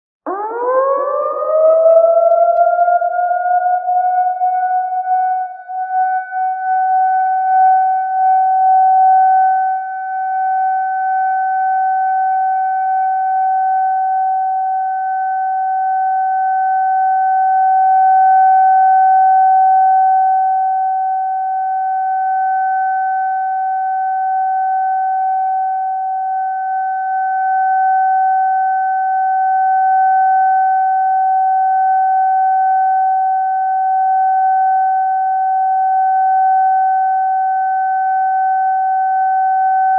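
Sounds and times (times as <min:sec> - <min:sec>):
siren long steady tone: 0:00.3 - 0:39.9.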